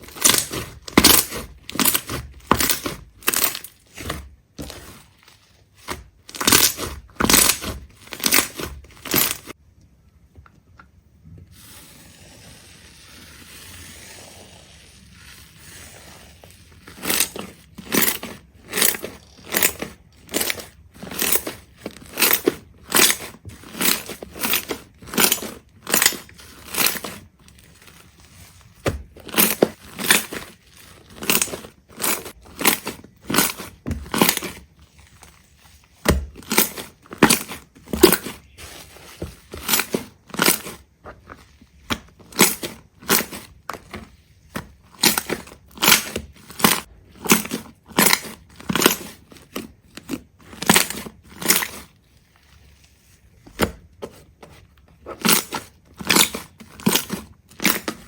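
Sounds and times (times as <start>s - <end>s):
crisp crunching: 0.0s - 9.6s, 14.8s - 58.0s.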